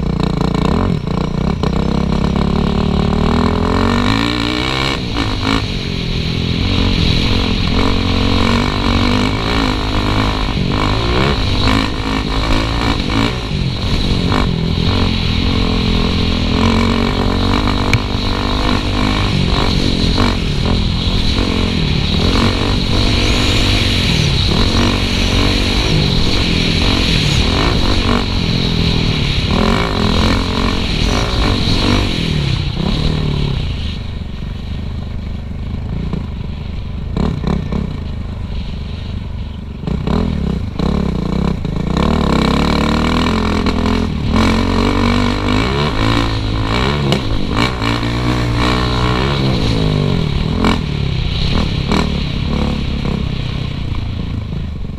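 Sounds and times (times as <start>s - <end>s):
dirt bike engine revving: 0.0s - 34.0s, 39.8s - 53.8s.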